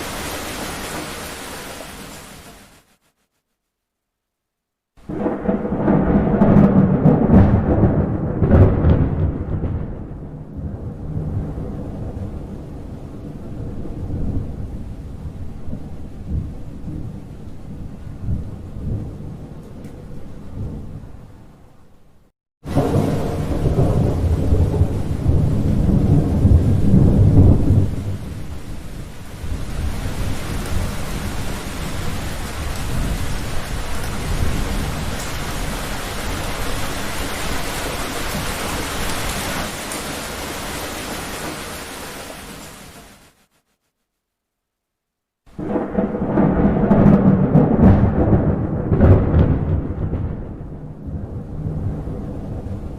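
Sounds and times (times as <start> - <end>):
heavy rain: 0.0 - 3.2, 5.0 - 21.2, 22.6 - 43.6, 45.5 - 52.9
thunder rumbling: 5.0 - 21.6, 22.6 - 42.8, 45.5 - 52.9.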